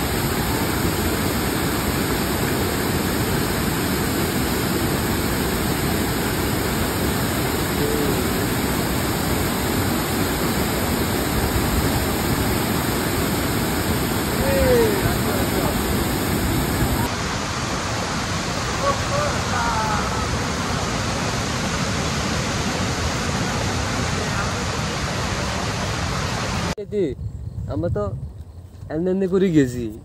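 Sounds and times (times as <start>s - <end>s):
waterfall rushing and splashing: 0.0s - 26.8s.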